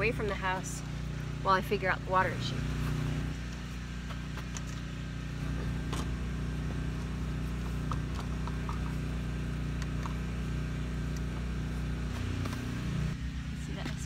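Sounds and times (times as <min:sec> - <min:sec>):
generator engine humming: 0:00.0 - 0:14.0.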